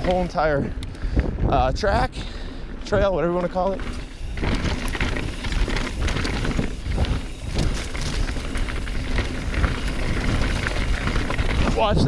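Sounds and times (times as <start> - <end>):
bike clicks and rattles: 0.0 - 12.0
bike tyres rumbling over dirt: 0.0 - 12.0.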